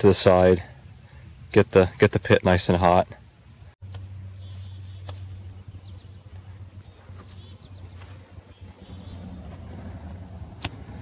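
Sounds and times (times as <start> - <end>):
small birds chirping faintly: 0.0 - 11.0
steady low hum: 0.0 - 11.0.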